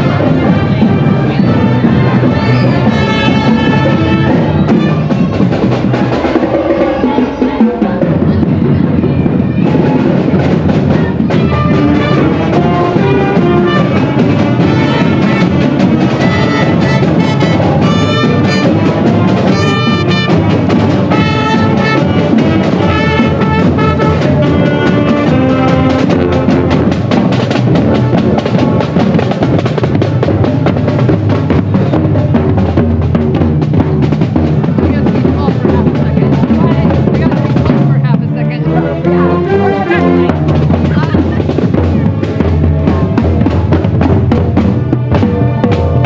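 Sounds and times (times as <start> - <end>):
marching band playing: 0.0 - 46.0.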